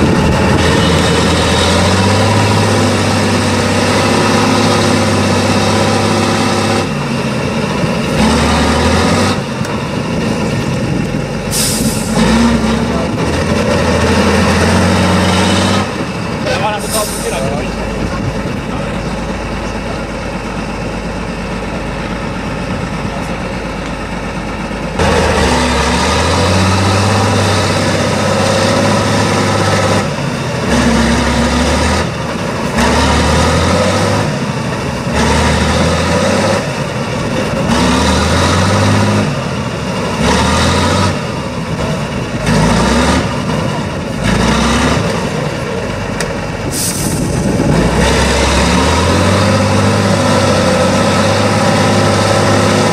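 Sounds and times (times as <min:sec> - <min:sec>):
truck diesel engine revving: 0:00.0 - 0:52.9.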